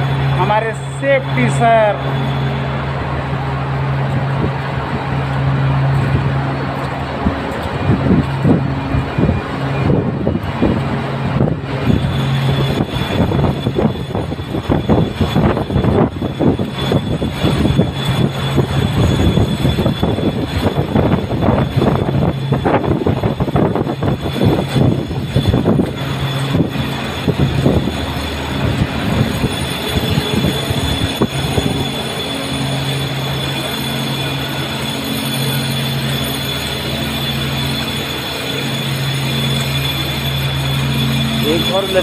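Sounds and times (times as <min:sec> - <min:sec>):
construction machinery drone: 0:00.0 - 0:42.0.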